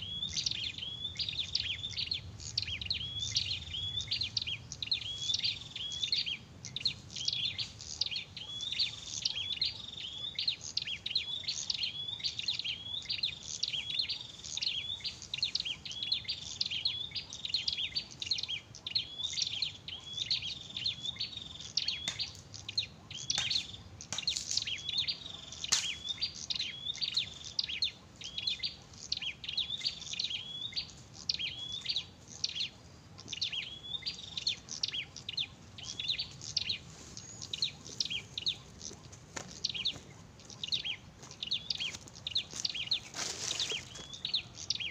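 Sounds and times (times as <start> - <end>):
bird chirping: 0.0 - 44.9.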